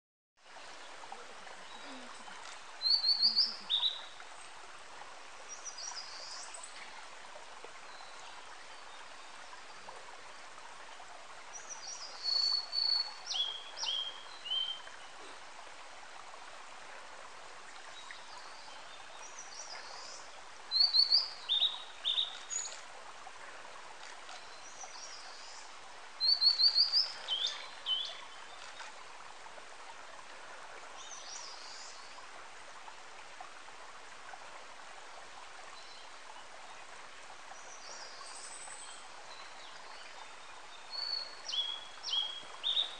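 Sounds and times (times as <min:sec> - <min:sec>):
steady background hiss: 0:00.4 - 0:42.9.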